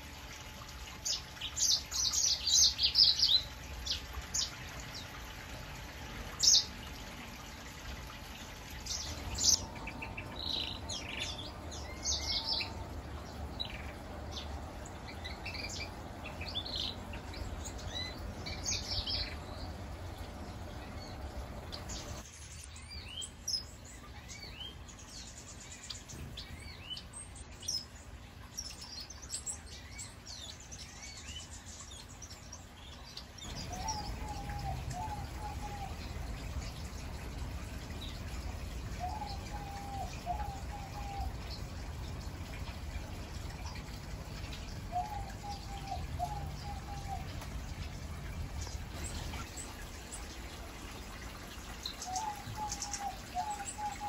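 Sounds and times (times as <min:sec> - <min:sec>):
birds chirping and twittering: 0:00.0 - 0:54.0
low steady hum: 0:00.0 - 0:54.0.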